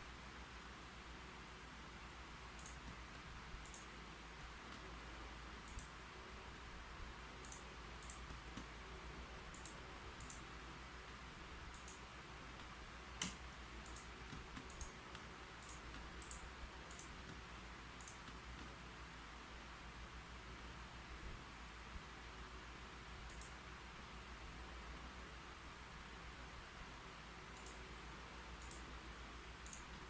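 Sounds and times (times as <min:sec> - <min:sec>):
steady low hiss: 0:00.0 - 0:30.0.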